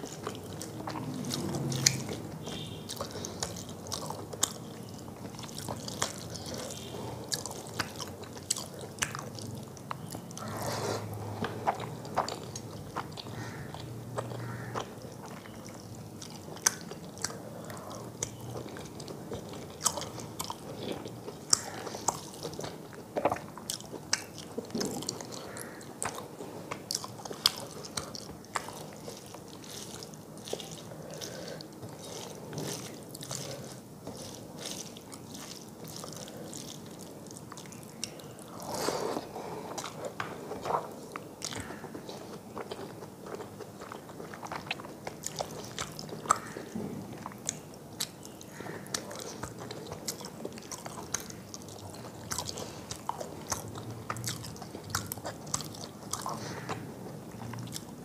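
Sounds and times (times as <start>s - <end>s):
person chewing with wet mouth sounds: 0.0s - 58.0s.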